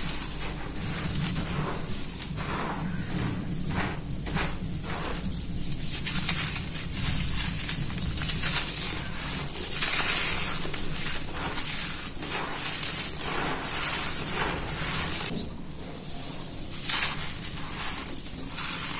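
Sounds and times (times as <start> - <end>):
hands crumbling dry dirt clumps: 0.0 - 15.3, 16.6 - 18.9
raking through gritty soil: 0.0 - 18.9.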